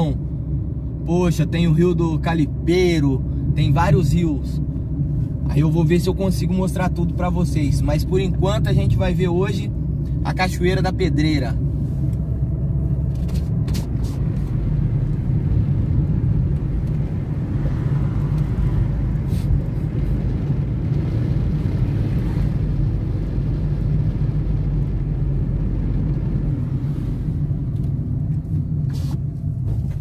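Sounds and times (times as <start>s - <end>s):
car cabin engine and tyre rumble: 0.0s - 30.0s.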